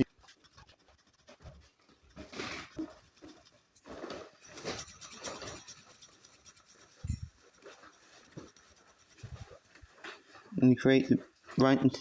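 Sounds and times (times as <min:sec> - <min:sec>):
drawing tool scratching paper: 0:00.0 - 0:11.6.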